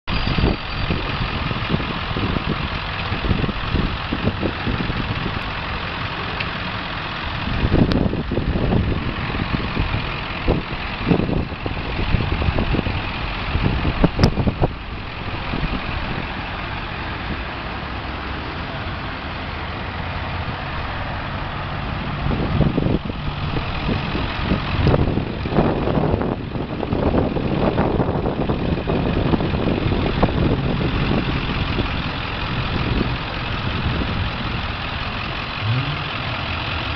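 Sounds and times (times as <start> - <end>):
diesel engine idling: 0.1 - 36.9.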